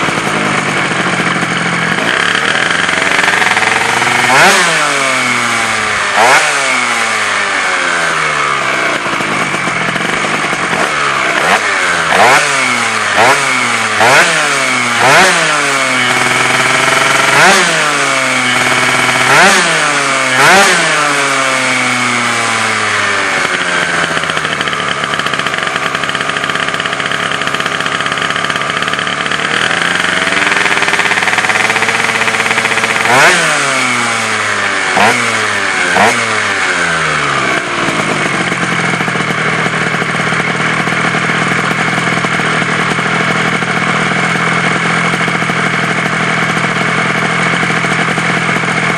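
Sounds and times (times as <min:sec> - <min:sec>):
scooter engine revving: 0:00.0 - 0:48.9.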